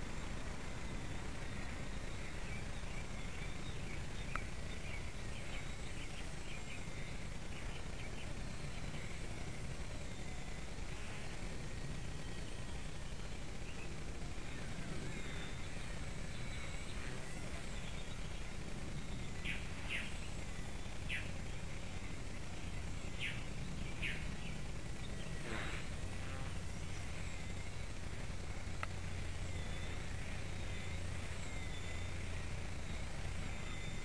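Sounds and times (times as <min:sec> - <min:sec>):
bird chirping: 0:00.0 - 0:34.0
low outdoor rumble: 0:00.0 - 0:34.0.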